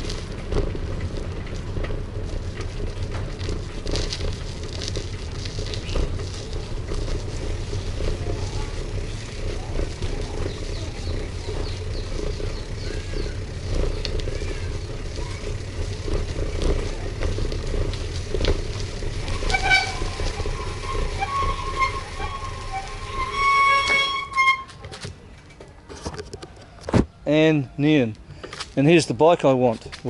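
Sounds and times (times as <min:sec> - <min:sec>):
motorbike engine rumble: 0:00.0 - 0:30.0.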